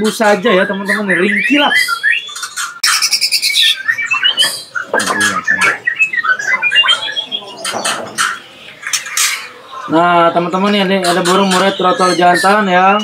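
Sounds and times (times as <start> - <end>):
harsh rasping bird calls: 0.0 - 13.0
songbirds chirping: 0.0 - 13.0.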